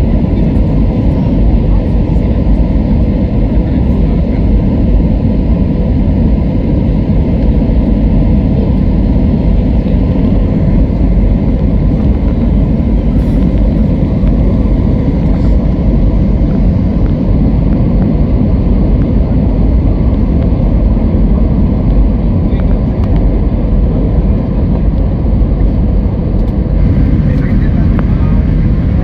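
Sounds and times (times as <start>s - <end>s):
airliner cabin engine rumble: 0.0s - 29.0s.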